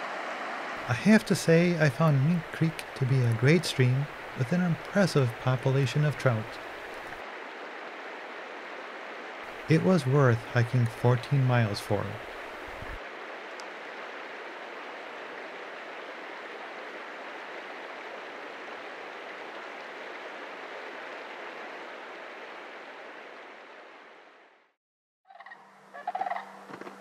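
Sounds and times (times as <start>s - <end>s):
mountain creek flowing over stones: 0.0s - 23.5s.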